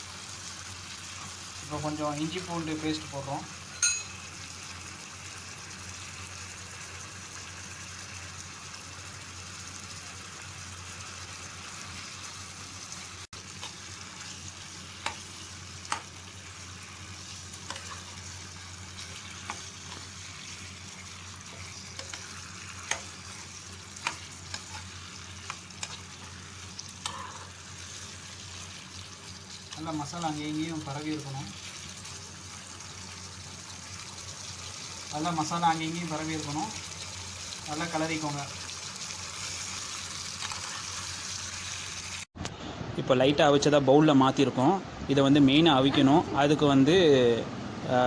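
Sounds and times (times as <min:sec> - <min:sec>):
liver sizzling in oil: 0:00.0 - 0:42.3.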